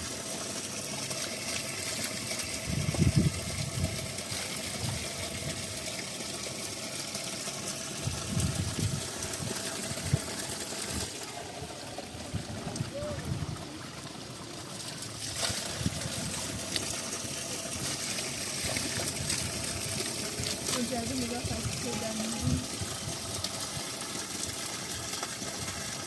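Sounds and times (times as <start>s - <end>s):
spring water running: 0.0s - 26.0s.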